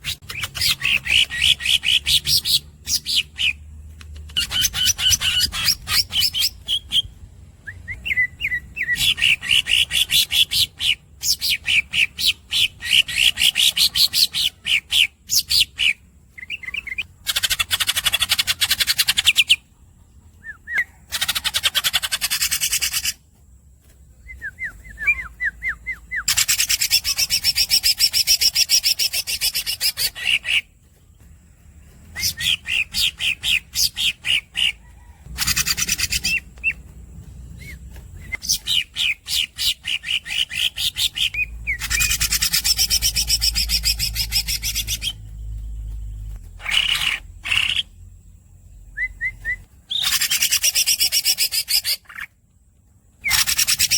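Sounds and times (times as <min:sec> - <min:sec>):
bird singing squeaky chirps: 0:00.0 - 0:19.6, 0:20.2 - 0:23.2, 0:24.2 - 0:48.1, 0:48.7 - 0:52.4, 0:53.2 - 0:53.9.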